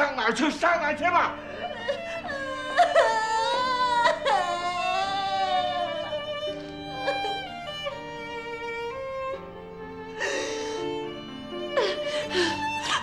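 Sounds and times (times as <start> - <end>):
slow violin melody: 0.0 - 13.0
sustained accompaniment: 0.1 - 13.0.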